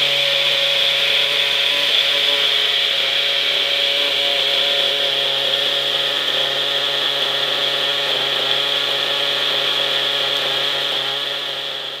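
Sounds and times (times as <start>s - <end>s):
model helicopter engine whine: 0.0s - 12.0s.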